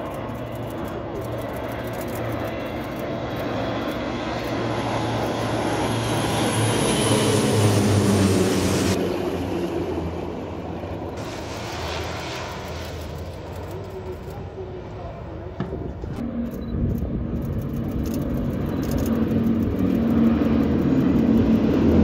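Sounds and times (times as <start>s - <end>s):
propeller aircraft flying overhead: 0.0s - 22.0s.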